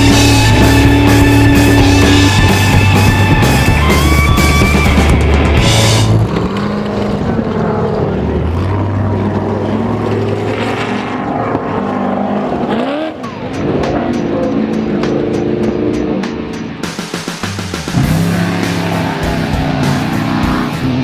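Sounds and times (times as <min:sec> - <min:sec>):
race vehicle engine revving: 0:00.0 - 0:21.0.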